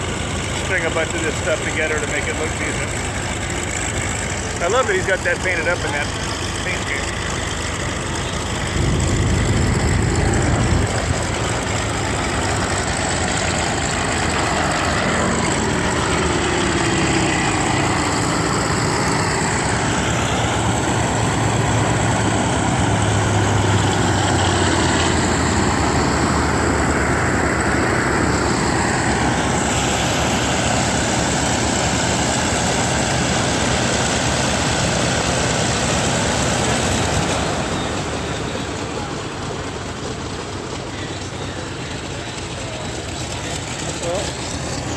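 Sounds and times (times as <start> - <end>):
radial piston engine running: 0.0 - 44.9.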